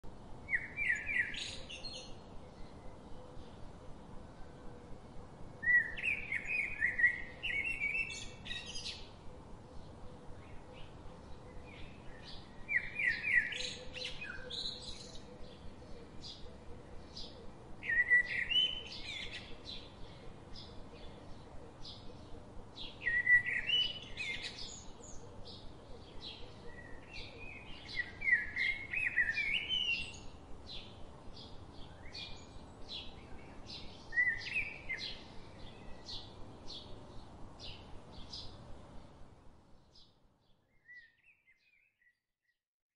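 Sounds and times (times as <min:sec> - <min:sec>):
songbird singing: 0:00.0 - 0:42.3.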